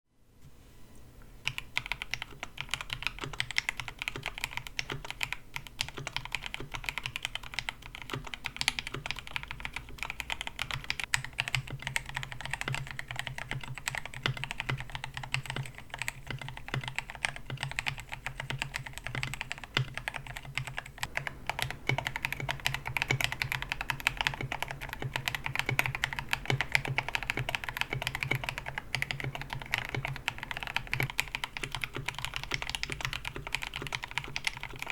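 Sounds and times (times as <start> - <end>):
steady low hum: 0.3 - 34.9
mechanical keyboard typing: 1.4 - 34.9.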